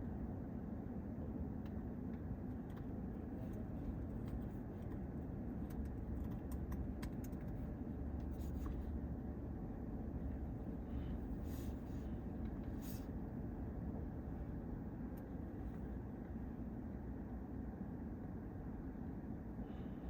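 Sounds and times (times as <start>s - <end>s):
low traffic rumble: 0.0s - 20.0s.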